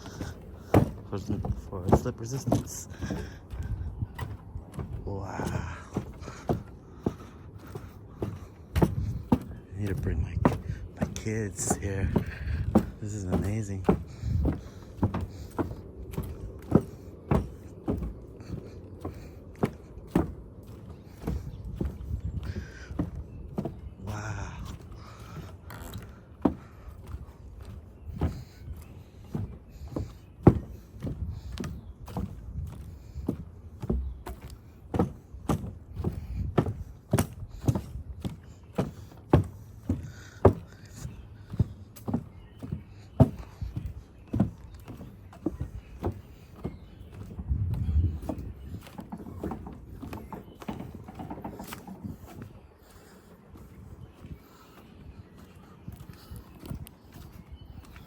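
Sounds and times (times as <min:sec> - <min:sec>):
footsteps on a boardwalk: 0:00.0 - 0:58.0.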